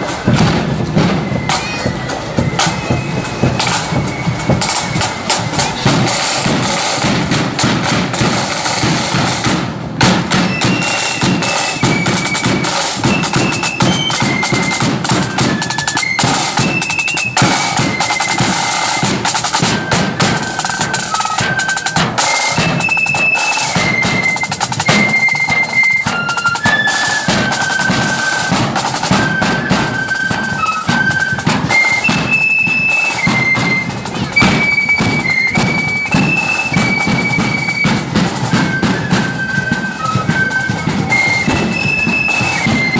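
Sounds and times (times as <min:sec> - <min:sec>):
flutes playing marching tune: 0:00.0 - 0:42.9
snare and bass drums: 0:00.0 - 0:42.9.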